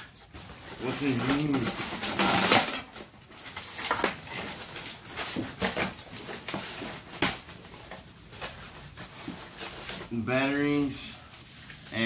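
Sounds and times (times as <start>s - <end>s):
styrofoam pieces rubbing: 0.0s - 12.0s
plastic bag crinkling: 0.4s - 12.0s.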